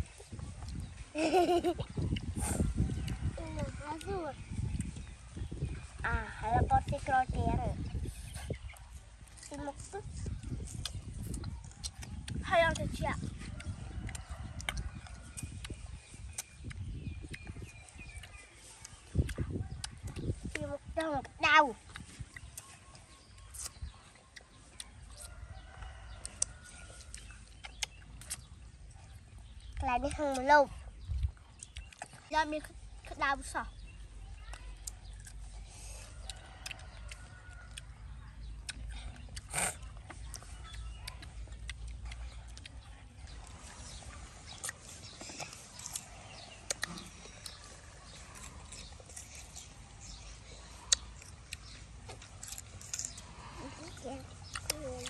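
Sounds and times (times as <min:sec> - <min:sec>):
chickens calling faintly: 0:00.0 - 0:55.0
gooseberries crunching when chewed: 0:00.0 - 0:55.0.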